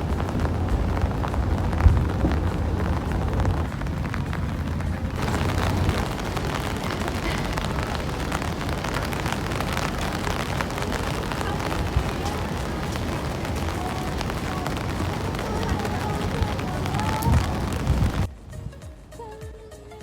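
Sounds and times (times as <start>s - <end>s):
heavy rain pattering: 0.0s - 18.5s.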